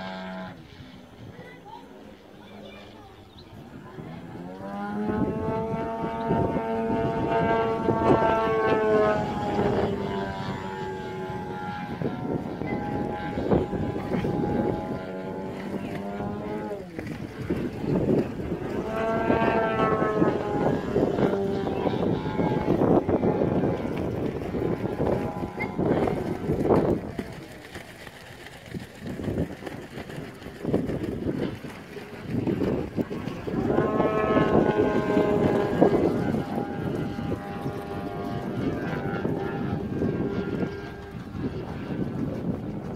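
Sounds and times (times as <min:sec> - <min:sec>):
model plane engine droning: 0:00.0 - 0:42.9.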